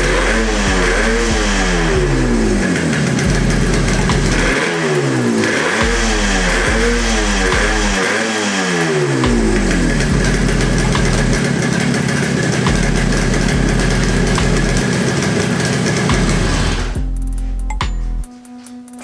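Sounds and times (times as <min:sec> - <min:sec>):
motorcycle engine revving and idling: 0:00.0 - 0:18.3.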